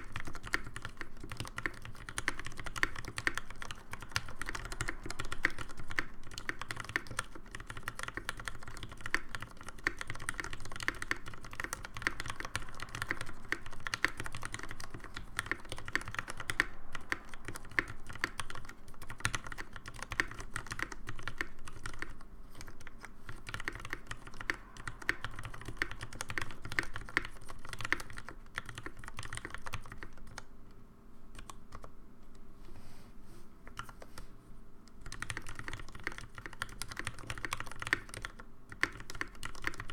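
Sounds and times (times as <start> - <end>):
fast typing on mechanical keyboard: 0.0 - 30.5, 31.4 - 31.9, 33.7 - 34.1, 35.0 - 39.9.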